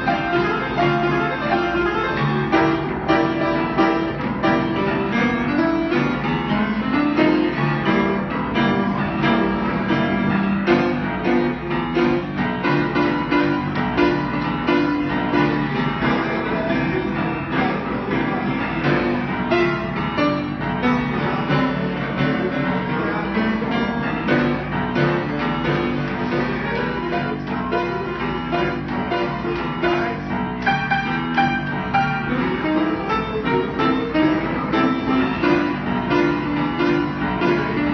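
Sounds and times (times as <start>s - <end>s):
grand piano playing: 0.0s - 37.9s.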